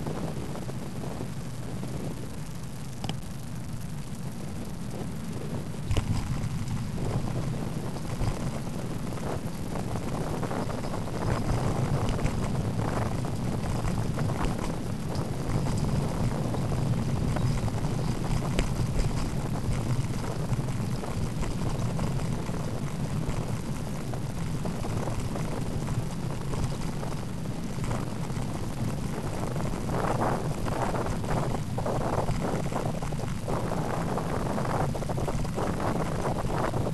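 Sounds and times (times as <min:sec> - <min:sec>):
bicycle tyres rumbling on tarmac: 0:00.0 - 0:36.9
wind buffeting microphone: 0:00.0 - 0:36.9.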